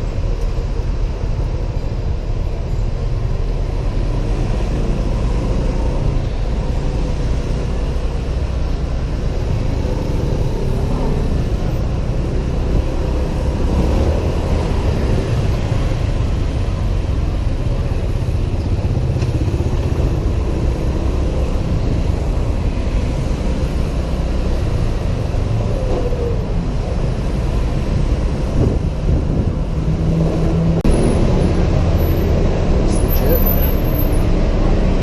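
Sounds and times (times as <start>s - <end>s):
wind rumble on microphone: 0.0s - 32.9s.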